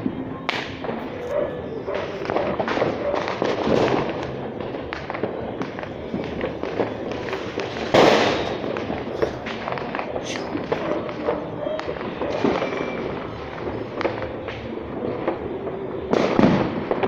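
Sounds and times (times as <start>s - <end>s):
firecrackers popping and crackling: 0.0s - 17.0s
loud firework bang: 0.0s - 17.0s.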